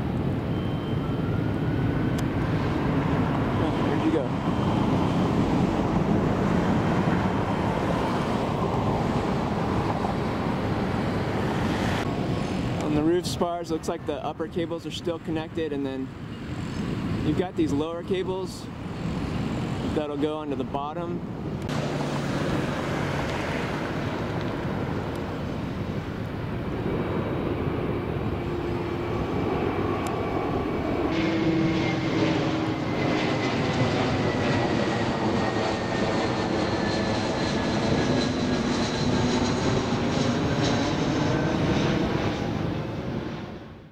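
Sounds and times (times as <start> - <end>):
jet airliner engine rush: 0.0 - 43.9.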